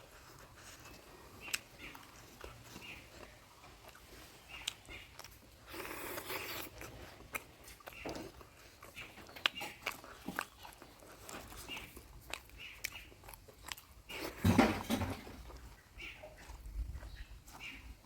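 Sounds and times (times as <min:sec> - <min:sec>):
wet chewing and biting: 0:00.0 - 0:14.5, 0:15.5 - 0:18.0.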